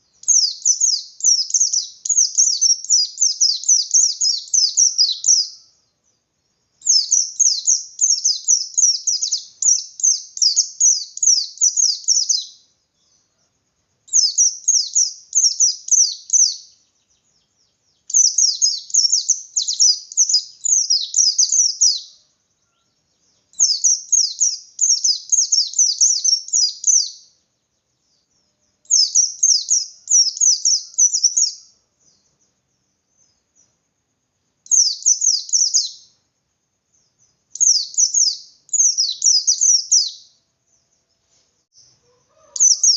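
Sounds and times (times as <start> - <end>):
bird twittering song: 0.0 - 42.9.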